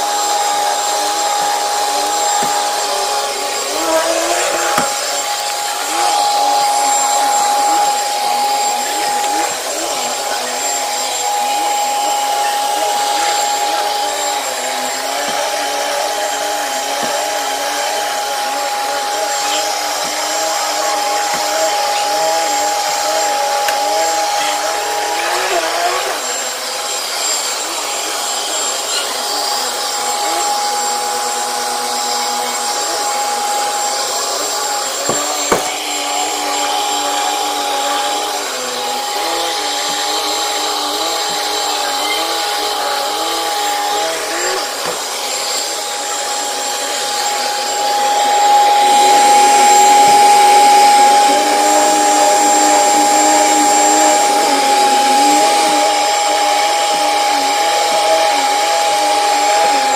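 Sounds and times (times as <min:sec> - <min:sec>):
vacuum cleaner whining over carpet: 0:00.0 - 0:59.9.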